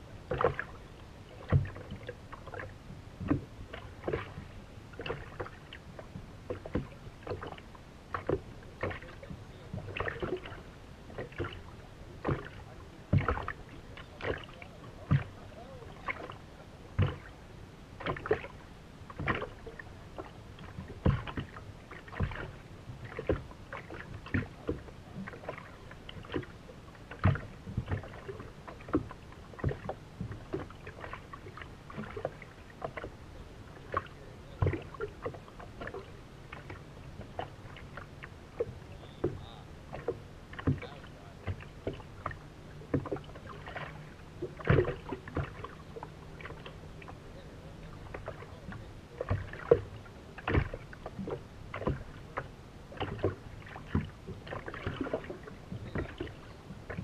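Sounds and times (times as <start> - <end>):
low steady hum: 0.0 - 57.0
water slapping against boat hull: 0.0 - 57.0.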